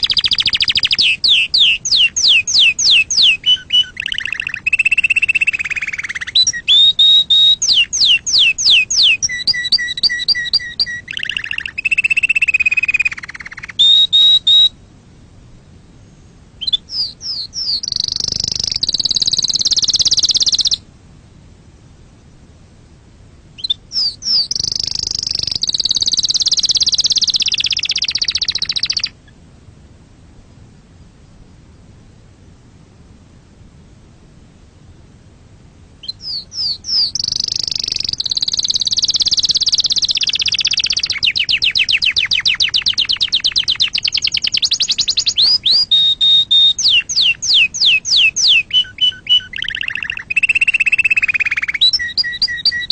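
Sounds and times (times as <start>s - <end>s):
canary singing trills: 0.0s - 14.8s, 16.0s - 20.9s, 23.6s - 29.4s, 36.0s - 52.9s.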